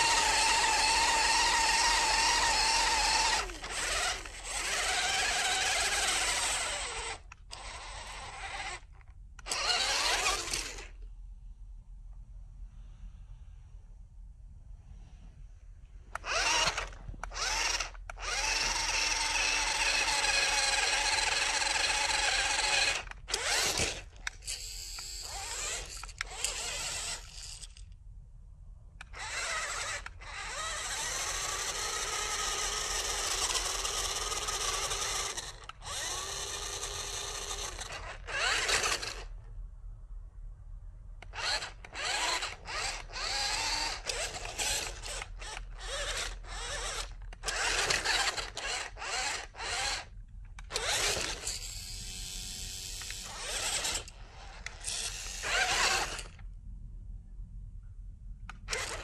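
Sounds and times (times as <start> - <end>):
toy electric motor whining: 0.0 - 11.0, 16.1 - 27.8, 29.0 - 39.4, 41.2 - 56.4, 58.5 - 59.0.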